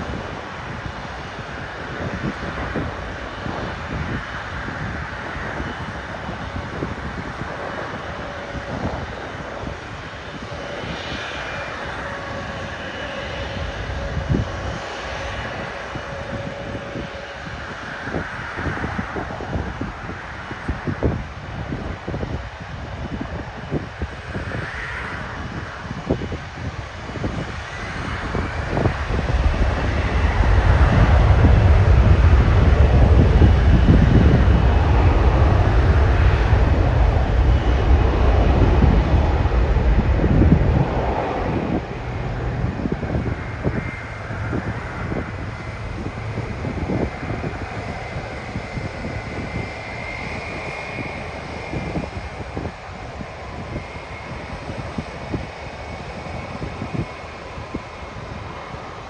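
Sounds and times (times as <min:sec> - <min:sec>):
jet engines at takeoff power: 0:00.0 - 0:59.0
wind buffeting microphone: 0:00.0 - 0:59.0.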